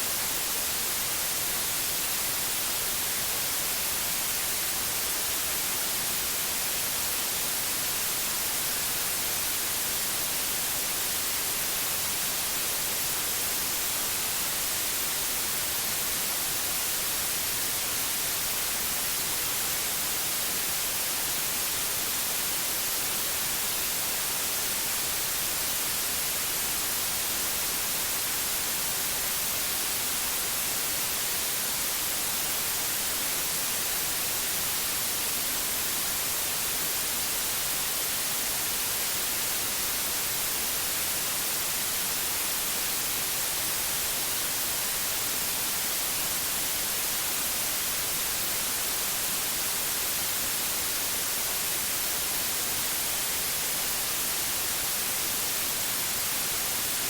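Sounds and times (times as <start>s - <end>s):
electronic white noise hiss: 0.0s - 57.0s.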